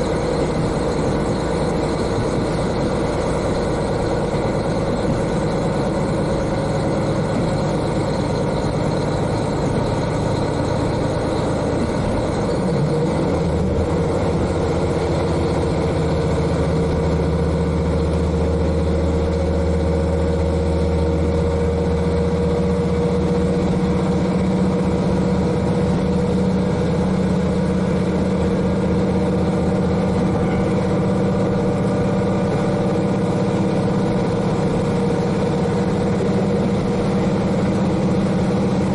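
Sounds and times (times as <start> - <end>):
diesel railcar engine running: 0.0 - 38.9.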